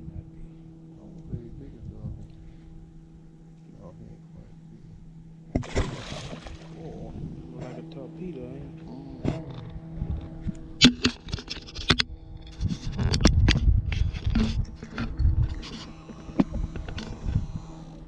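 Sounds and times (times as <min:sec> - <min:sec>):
faint steady hum: 0:00.0 - 0:18.0
low rumbling: 0:00.0 - 0:18.0.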